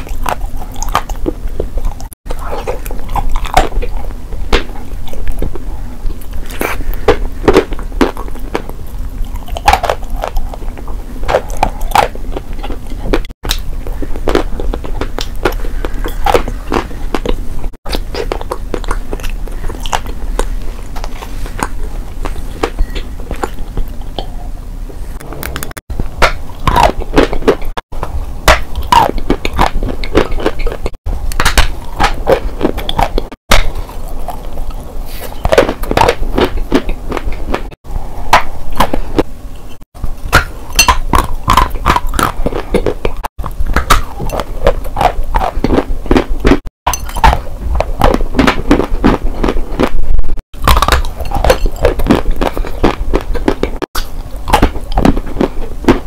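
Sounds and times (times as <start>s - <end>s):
wet chewing of clay paste: 0.0s - 24.6s, 25.2s - 56.0s.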